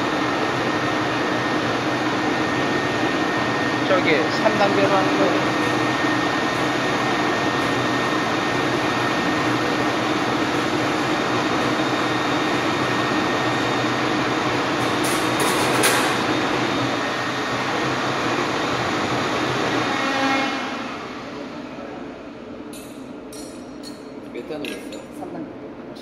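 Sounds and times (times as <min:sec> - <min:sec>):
cleaning machine running: 0:00.0 - 0:22.6.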